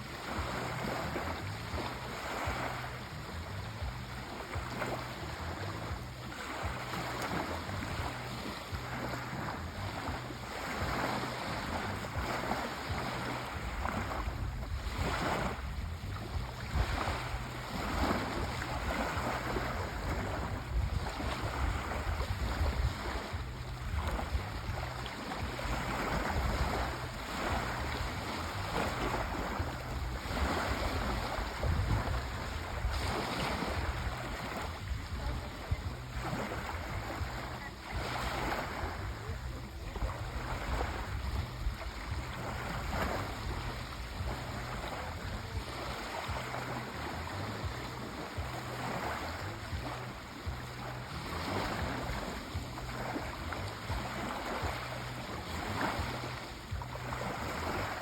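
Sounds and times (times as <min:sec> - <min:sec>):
sea waves breaking on shore: 0:00.0 - 0:58.0
wind rumble on microphone: 0:00.0 - 0:58.0.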